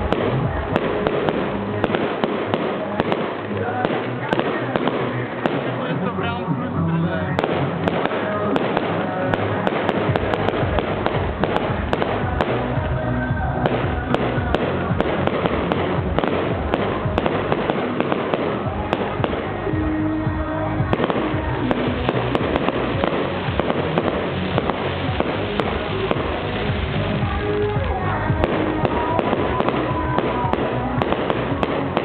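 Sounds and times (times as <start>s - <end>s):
fireworks bangs and crackles: 0.0s - 32.0s
loud music with bass beat: 0.0s - 32.0s.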